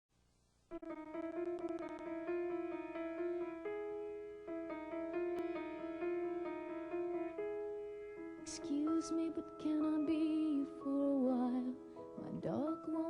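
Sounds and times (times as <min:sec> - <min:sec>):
solo piano playing: 0:00.7 - 0:13.0.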